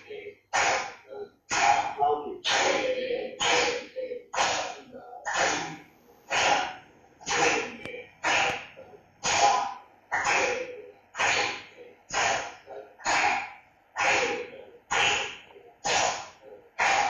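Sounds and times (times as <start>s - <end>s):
hand-clapping steady beat: 0.0s - 10.6s, 11.2s - 17.0s
people reciting: 0.0s - 17.0s.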